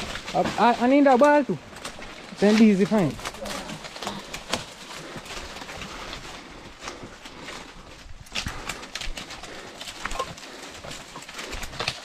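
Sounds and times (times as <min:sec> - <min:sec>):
brush rustling: 0:00.0 - 0:12.0
footsteps crunching on rocky trail: 0:00.0 - 0:12.0.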